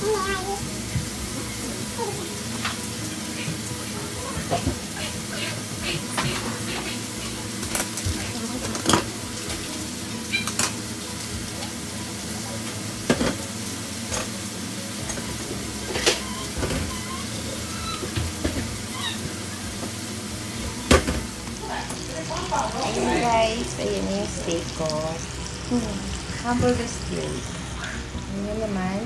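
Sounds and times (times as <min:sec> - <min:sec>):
meat sizzling in a skillet: 0:00.0 - 0:29.0.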